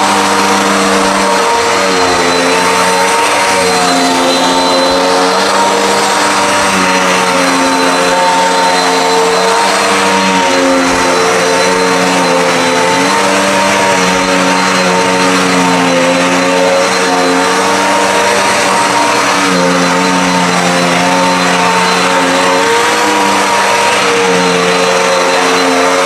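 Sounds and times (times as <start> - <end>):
vacuum cleaner on carpet: 0.0 - 26.0.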